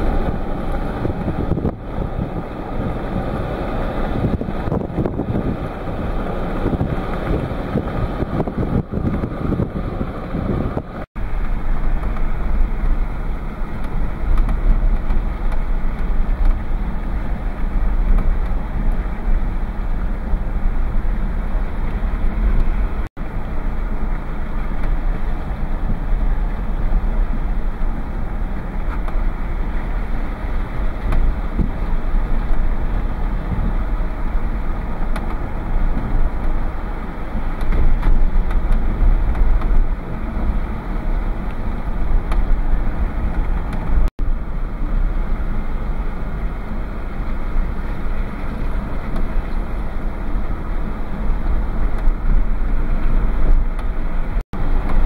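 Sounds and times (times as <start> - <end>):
car road and wind noise: 0.0 - 55.0.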